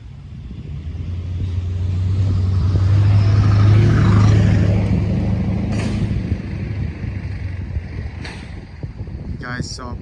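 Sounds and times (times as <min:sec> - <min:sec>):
vehicle engine passing by: 0:00.0 - 0:08.9.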